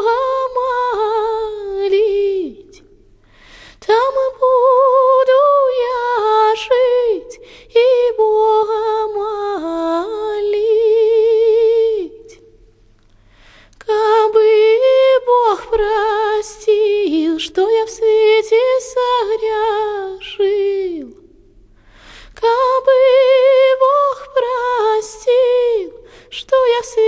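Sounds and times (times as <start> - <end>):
woman singing unaccompanied: 0.0 - 2.9, 3.8 - 12.4, 13.8 - 21.2, 22.4 - 27.0.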